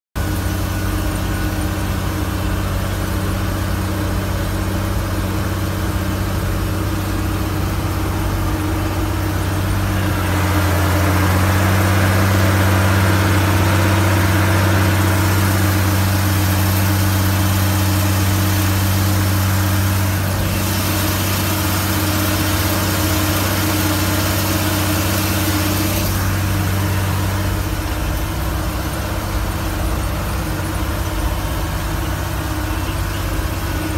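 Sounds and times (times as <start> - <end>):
tractor engine hum: 0.2 - 33.9.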